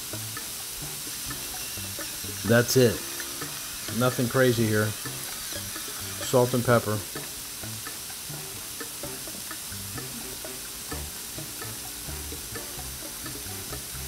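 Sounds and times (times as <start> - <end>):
meat sizzling on griddle: 0.0 - 14.0.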